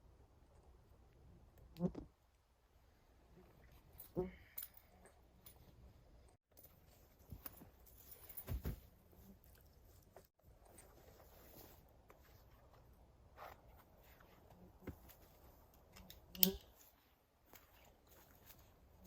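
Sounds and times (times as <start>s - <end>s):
rustles: 2.8s - 19.0s.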